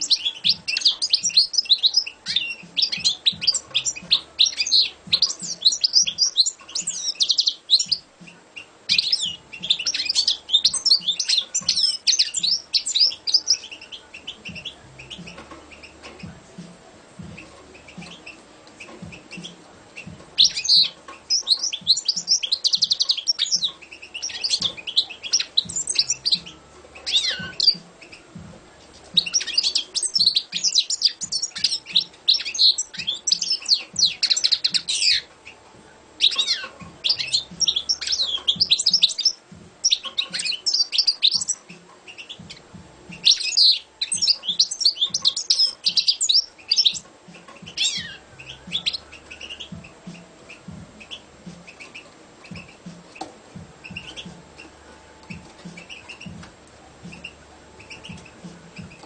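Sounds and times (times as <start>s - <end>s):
goldfinch singing: 0.0s - 59.0s.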